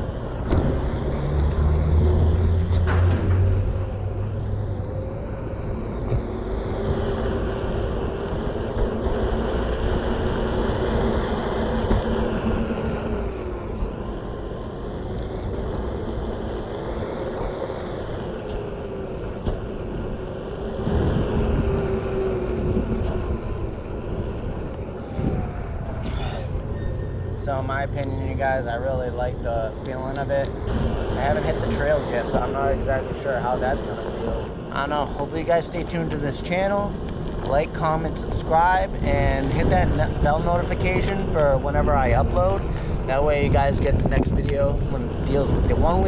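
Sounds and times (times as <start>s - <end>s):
electric motor whine: 0.0s - 38.1s
tire rolling noise: 0.0s - 46.0s.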